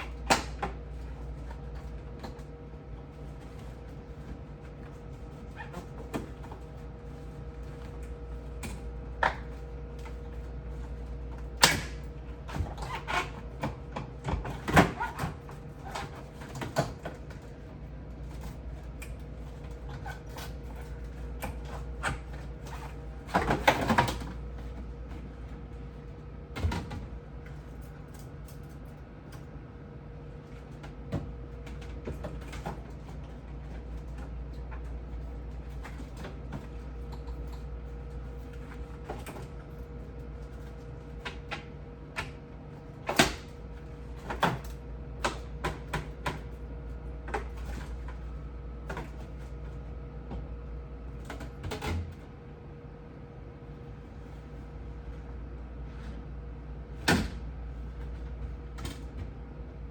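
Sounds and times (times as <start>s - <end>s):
fridge shelves and items clattering: 0.0s - 53.0s, 53.6s - 59.9s
steady low hum: 0.0s - 59.9s.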